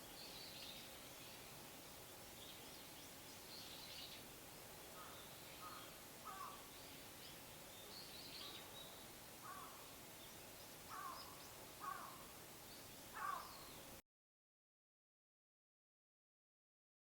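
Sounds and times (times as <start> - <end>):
background hiss: 0.0 - 14.0
faint birds calling: 0.0 - 14.0.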